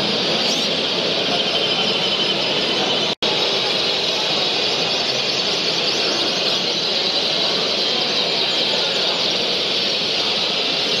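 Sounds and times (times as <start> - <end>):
canaries singing and chirping: 0.0 - 11.0
low murmur: 0.0 - 11.0.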